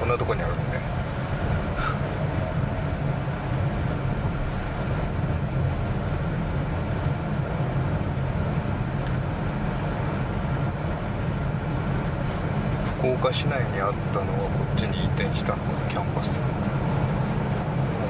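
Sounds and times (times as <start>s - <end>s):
car interior road and engine rumble: 0.0s - 18.0s.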